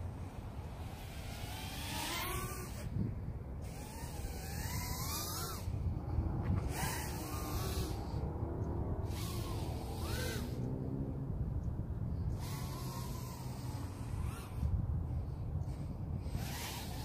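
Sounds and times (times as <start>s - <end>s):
drone motors whining: 0.0s - 17.0s
steady low rumble: 0.0s - 17.0s.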